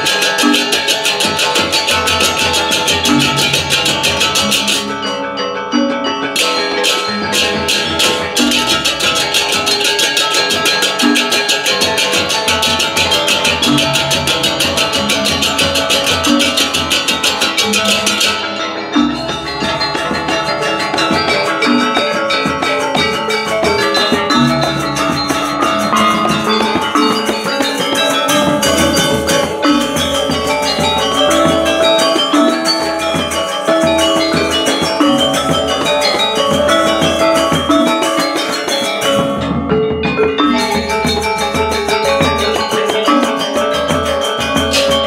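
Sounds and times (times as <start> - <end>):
hand drum strokes: 0.0 - 5.1, 6.4 - 45.0
hand cymbals clashing: 0.0 - 45.0
metallophones and gongs ringing: 0.0 - 45.0.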